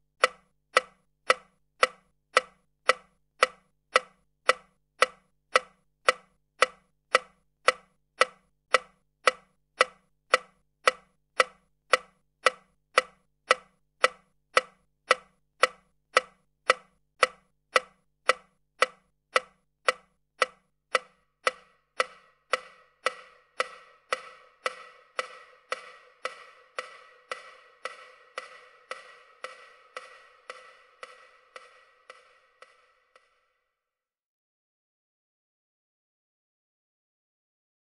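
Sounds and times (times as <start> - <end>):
clockwork mechanism ticking: 0.1 - 33.6.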